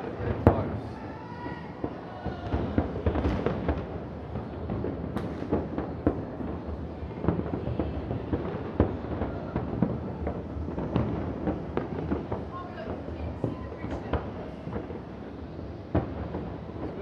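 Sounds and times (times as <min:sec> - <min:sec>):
distant fireworks booming: 0:00.0 - 0:17.0.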